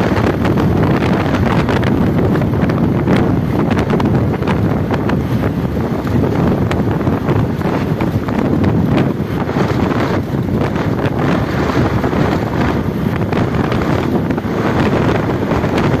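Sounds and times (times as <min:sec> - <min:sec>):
passing traffic noise: 0:00.0 - 0:16.0
wind buffeting microphone: 0:00.0 - 0:16.0.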